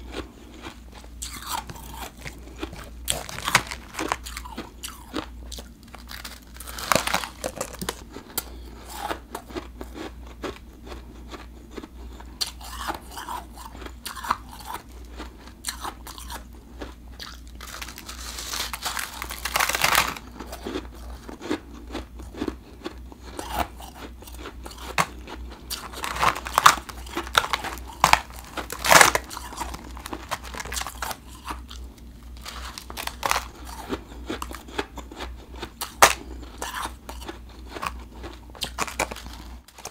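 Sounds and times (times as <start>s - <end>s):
crunching ice while chewing: 0.0s - 39.9s.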